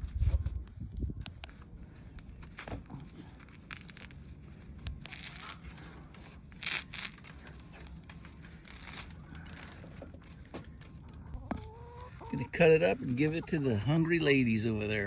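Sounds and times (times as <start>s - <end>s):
wheat grass rustling and tearing: 0.0s - 15.0s.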